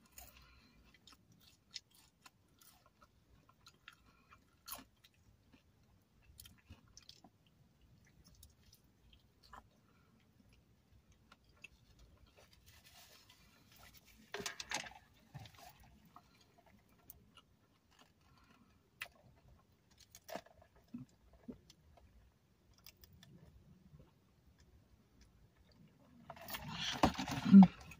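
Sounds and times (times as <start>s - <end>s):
crackly crunch: 0.0s - 27.9s
quiet chewing: 0.0s - 27.9s.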